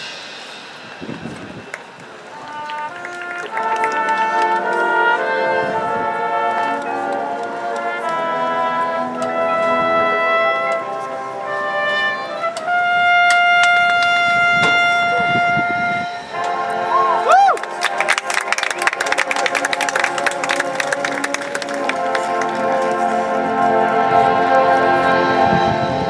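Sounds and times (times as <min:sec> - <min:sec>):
brass band playing chords: 0:00.0 - 0:26.0.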